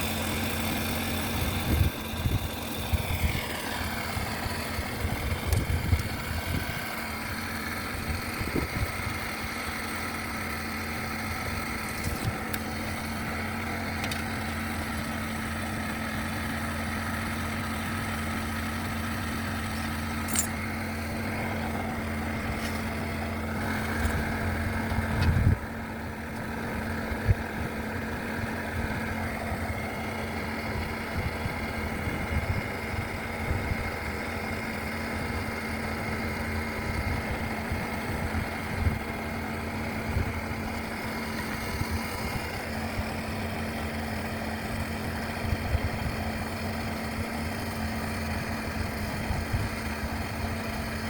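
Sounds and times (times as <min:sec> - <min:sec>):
engine idling: 0:00.0 - 0:51.0.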